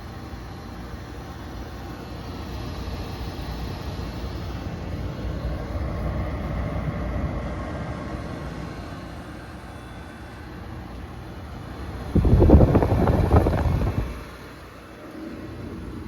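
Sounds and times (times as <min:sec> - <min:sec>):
air conditioner rattling shudder: 0:00.0 - 0:16.0
window air conditioner running: 0:00.0 - 0:16.0.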